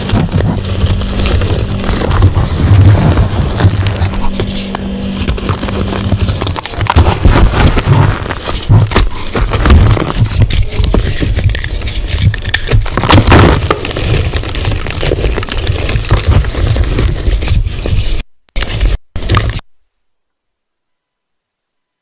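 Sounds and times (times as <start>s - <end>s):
chalk being crushed: 0.0s - 19.4s.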